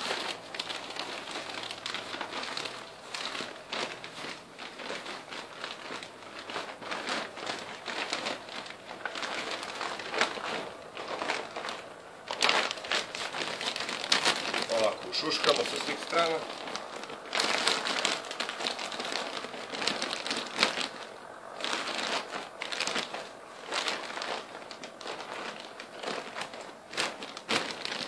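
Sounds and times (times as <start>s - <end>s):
plastic sheeting crinkling: 0.0s - 28.0s.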